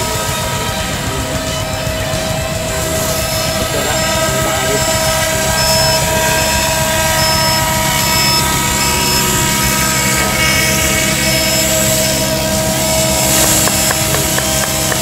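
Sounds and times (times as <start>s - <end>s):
model helicopter whine: 0.0s - 15.0s.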